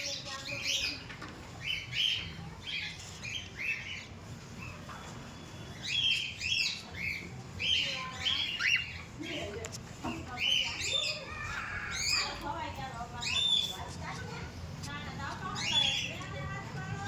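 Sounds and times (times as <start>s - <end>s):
cockatiels chirping: 0.0s - 16.5s.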